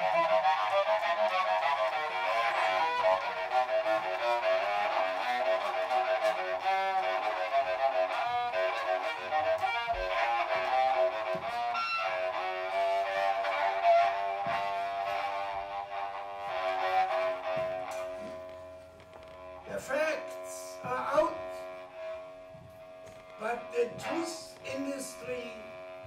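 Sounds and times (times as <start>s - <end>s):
bow scraping strings: 0.0s - 26.0s
bowed cello notes: 0.0s - 26.0s.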